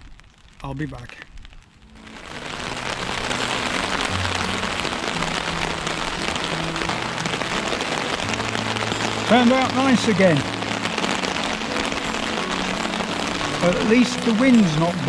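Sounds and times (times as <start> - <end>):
rain on umbrella canopy: 0.0 - 15.0
low background music: 1.9 - 15.0.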